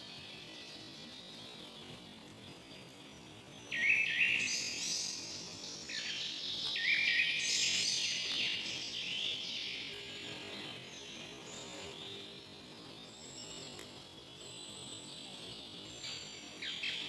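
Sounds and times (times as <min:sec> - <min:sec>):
faint high hiss: 0:00.0 - 0:17.0
songbirds chirping and singing: 0:00.0 - 0:17.0.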